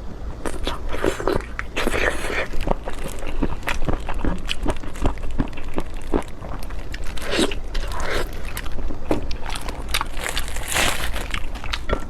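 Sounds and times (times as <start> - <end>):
crunchy bites and chewing: 0.4 - 12.0.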